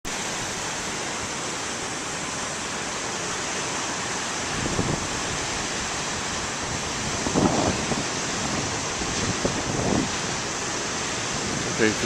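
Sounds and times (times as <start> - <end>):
waves breaking ashore: 0.1 - 12.0.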